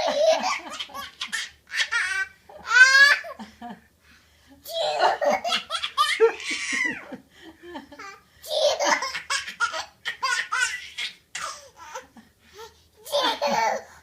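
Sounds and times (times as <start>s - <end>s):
toddler laughing: 0.0s - 3.4s, 4.7s - 7.2s, 7.9s - 13.9s.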